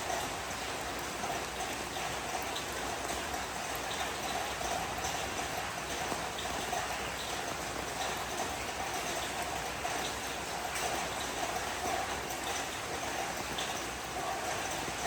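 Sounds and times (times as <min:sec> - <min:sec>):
rain falling softly: 0:00.0 - 0:15.0.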